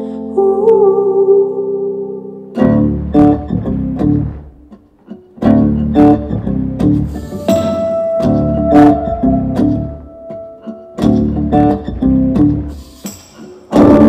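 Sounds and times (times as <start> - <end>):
plucked guitar and bass chords: 2.4 - 14.0.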